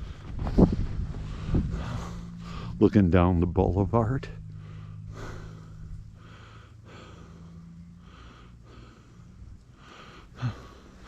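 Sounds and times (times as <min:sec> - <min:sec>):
man breathing: 0:00.0 - 0:02.8, 0:04.4 - 0:11.0
low steady hum: 0:00.0 - 0:11.0.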